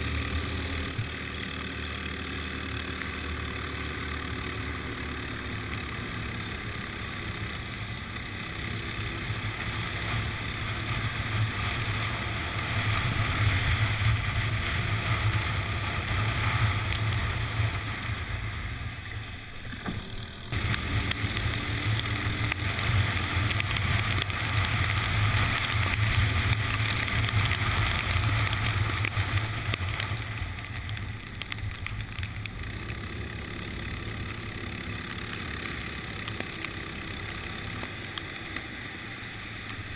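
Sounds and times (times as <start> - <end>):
wind and tyre spray hiss: 0.0 - 19.8, 20.5 - 39.9
go-kart engine racing: 0.0 - 39.9.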